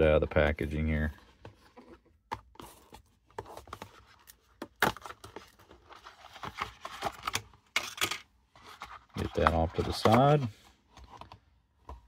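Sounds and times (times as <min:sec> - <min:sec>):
hands handling a cardboard box: 0:00.3 - 0:07.8, 0:08.5 - 0:12.0.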